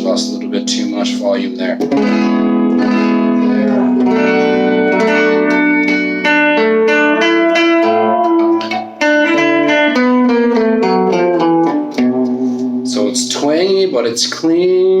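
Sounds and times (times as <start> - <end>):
clean electric guitar picking: 0.0 - 13.8.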